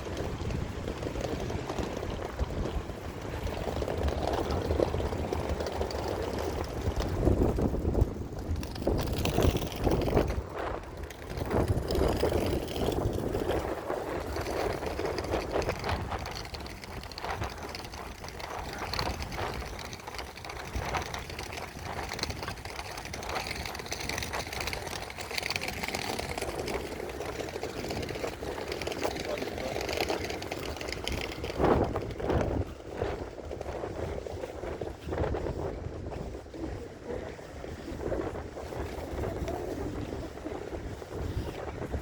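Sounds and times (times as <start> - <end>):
low traffic rumble: 0.0 - 33.9.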